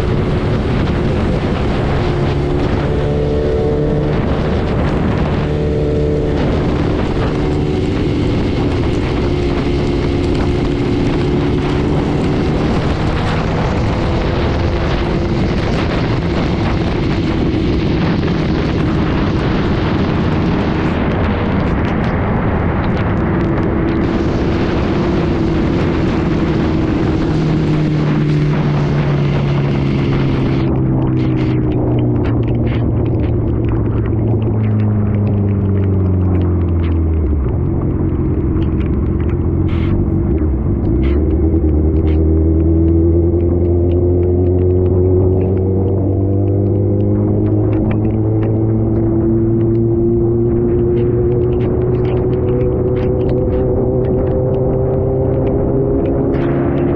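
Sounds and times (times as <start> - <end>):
motorcycle engine cruising: 0.0 - 56.9
wind and rain noise: 0.0 - 56.9.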